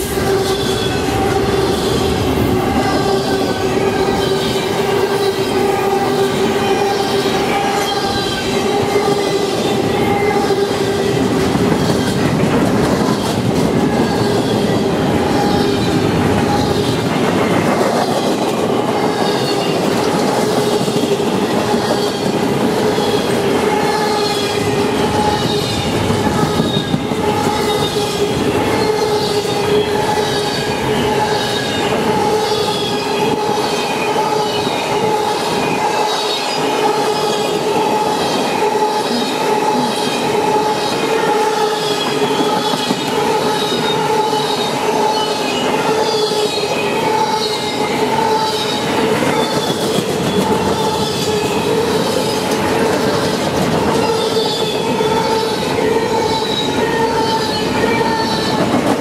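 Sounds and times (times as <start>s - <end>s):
freight train rolling over rails: 0.0s - 59.0s
train wheels squealing: 0.0s - 59.0s.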